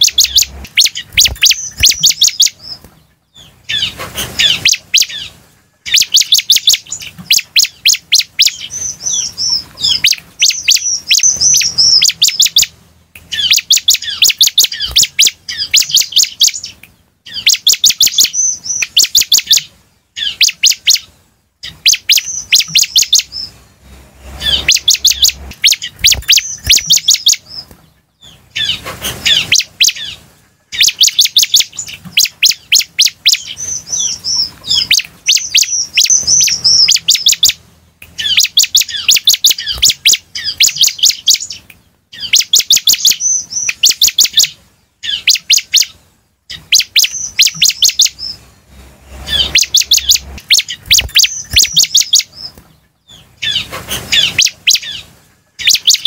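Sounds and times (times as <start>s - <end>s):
bird singing sharp high chips: 0.0s - 56.0s.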